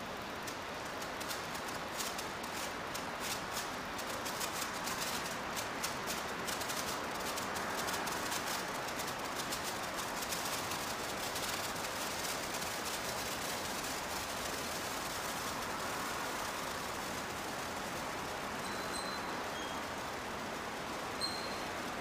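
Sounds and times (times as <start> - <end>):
sparkler crackling and hissing: 0.0 - 22.0.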